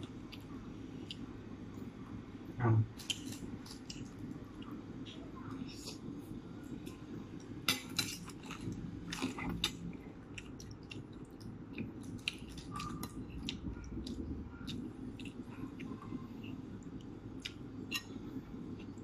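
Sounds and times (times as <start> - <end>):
chewing and wet mouth sounds: 0.0 - 2.0, 3.0 - 19.0.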